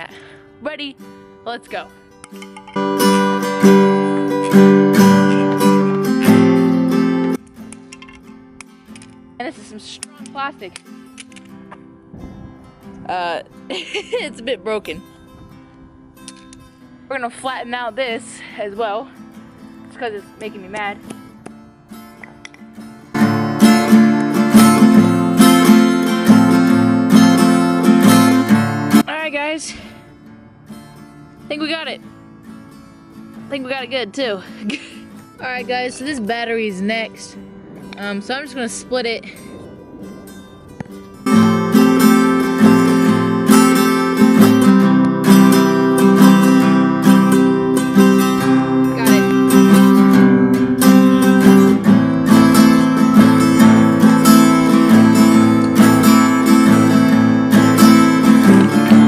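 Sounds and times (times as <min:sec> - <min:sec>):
strummed acoustic guitar: 0:00.0 - 0:59.0.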